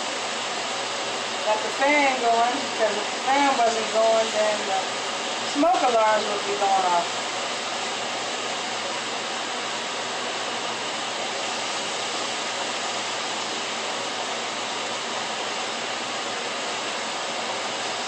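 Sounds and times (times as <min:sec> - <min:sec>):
kitchen fan whooshing: 0:00.0 - 0:18.0.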